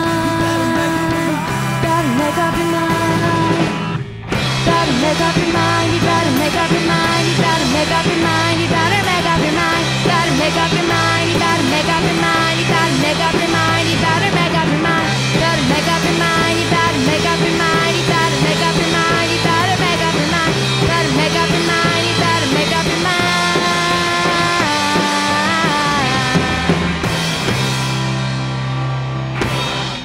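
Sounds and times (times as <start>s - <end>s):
bass line: 0.0s - 30.0s
electric guitar bending notes: 0.0s - 30.0s
rock band playing live: 0.0s - 30.0s.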